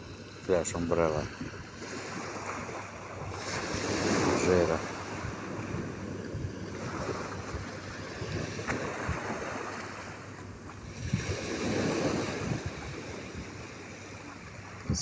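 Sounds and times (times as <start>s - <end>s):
sea surf washing onto beach: 0.3s - 15.0s
wind on microphone: 1.2s - 15.0s.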